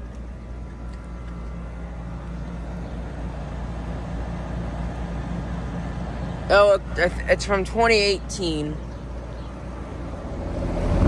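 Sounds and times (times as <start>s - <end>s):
compressor low hum: 0.0s - 11.0s
condenser fan rushing: 0.0s - 11.0s.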